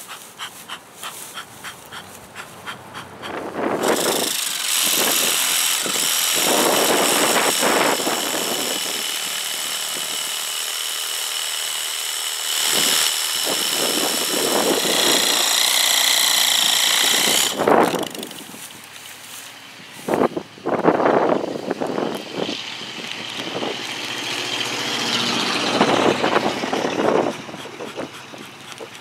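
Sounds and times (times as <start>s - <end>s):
power tool motor whine: 3.6s - 29.0s.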